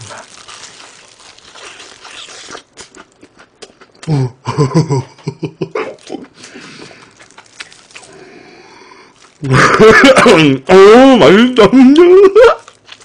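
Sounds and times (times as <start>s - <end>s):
crunching fried chicken: 0.0s - 13.0s.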